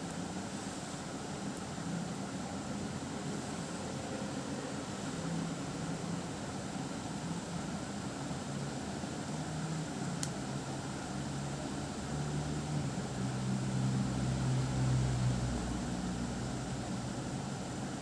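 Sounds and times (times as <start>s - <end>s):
low mechanical hum with hiss: 0.0s - 18.0s.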